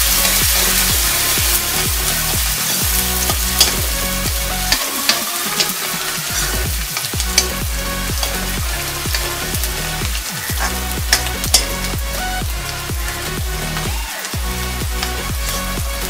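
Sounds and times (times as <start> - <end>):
metal ladle scraping a pan: 0.0 - 13.8
electronic dance music: 0.0 - 16.0
garlic and onion sizzling in oil: 0.0 - 16.0.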